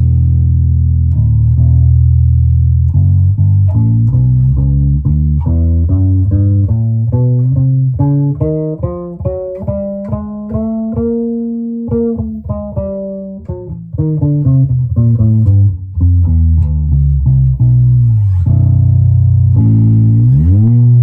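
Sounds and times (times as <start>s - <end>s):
bass guitar plucked notes: 0.0s - 21.0s.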